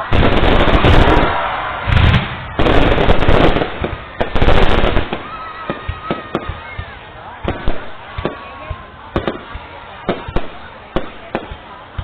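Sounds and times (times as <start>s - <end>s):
fireworks booming and crackling: 0.0s - 12.0s
fireworks popping: 0.0s - 12.0s.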